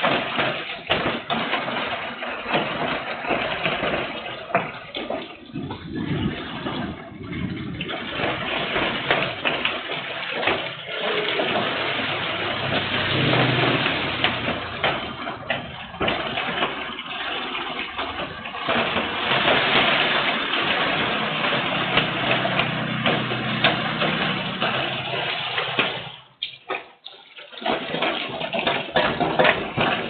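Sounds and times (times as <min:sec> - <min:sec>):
heavy rain: 0:00.0 - 0:26.3
raindrops pattering close by: 0:00.0 - 0:30.0.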